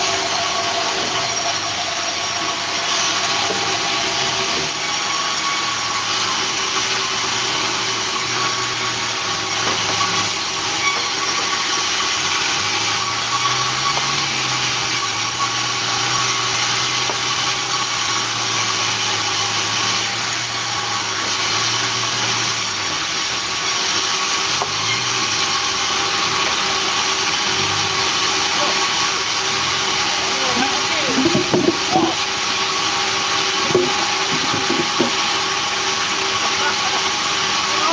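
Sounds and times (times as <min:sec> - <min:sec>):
sawmill machinery hissing and whining: 0:00.0 - 0:37.9.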